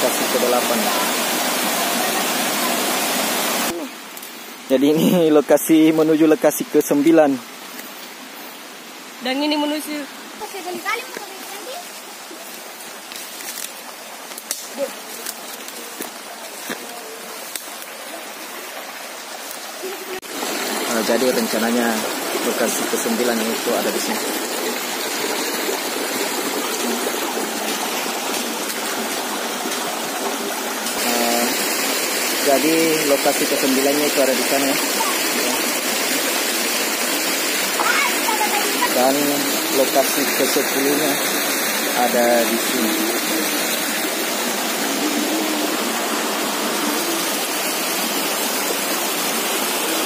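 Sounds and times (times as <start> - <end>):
water rushing over stones: 0.0 - 50.0.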